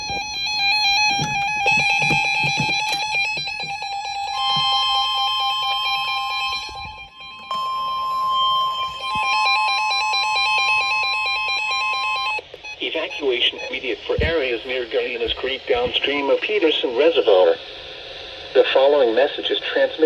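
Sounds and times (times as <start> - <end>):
harsh alarm tone: 0.0 - 16.7.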